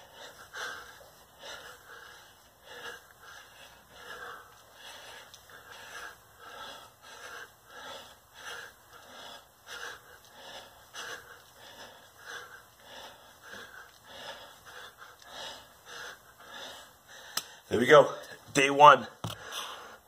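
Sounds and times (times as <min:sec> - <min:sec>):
man breathing hard: 0:00.0 - 0:18.5, 0:19.2 - 0:20.0.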